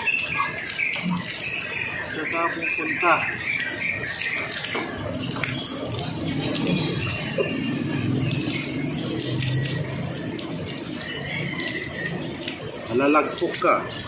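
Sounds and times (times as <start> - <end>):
water running: 0.0 - 14.0.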